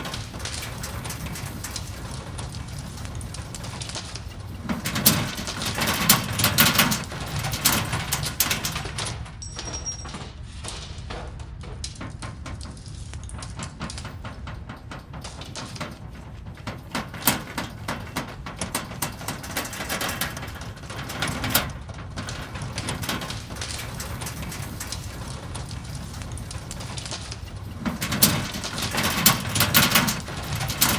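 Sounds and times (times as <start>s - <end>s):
deep earthquake rumble: 0.0s - 9.4s, 10.4s - 30.9s
rattling and crackling: 0.0s - 30.9s.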